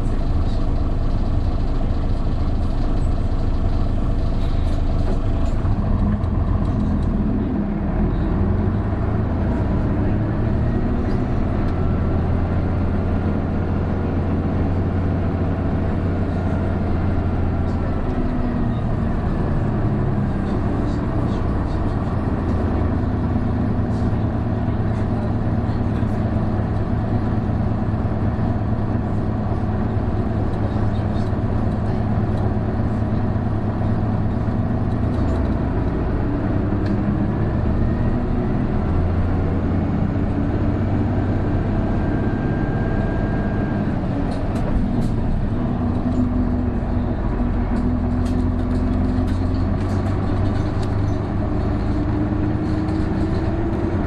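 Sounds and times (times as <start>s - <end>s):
diesel bus engine pulling uphill: 0.0s - 54.0s.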